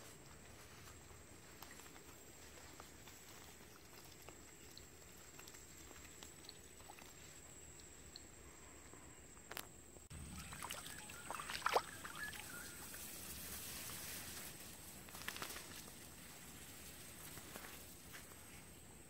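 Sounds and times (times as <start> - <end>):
faint steady hiss: 0.0 - 19.0
paws splashing through mud: 0.4 - 7.5, 10.4 - 18.6.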